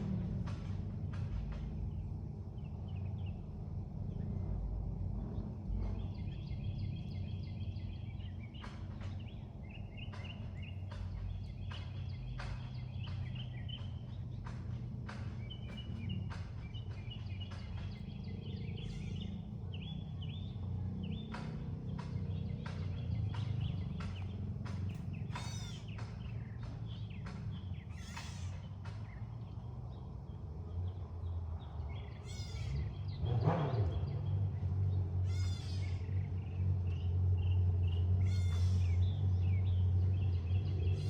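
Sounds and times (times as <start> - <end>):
motorcycle engines rumbling: 0.0 - 41.0
birds chirping: 0.6 - 41.0.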